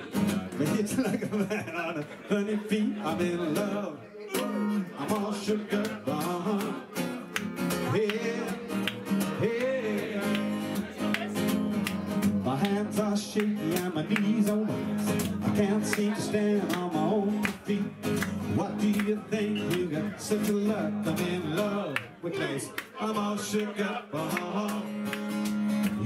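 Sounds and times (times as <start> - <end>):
acoustic guitar strummed: 0.0 - 1.4, 2.3 - 22.0, 23.0 - 26.0
person singing: 2.2 - 25.1.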